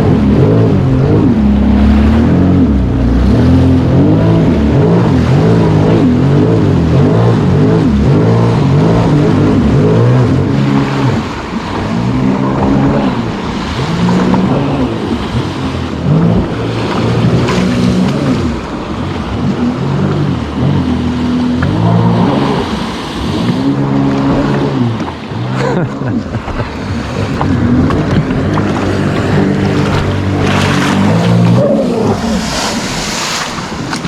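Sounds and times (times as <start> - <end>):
engine revving up and down: 0.0 - 34.0.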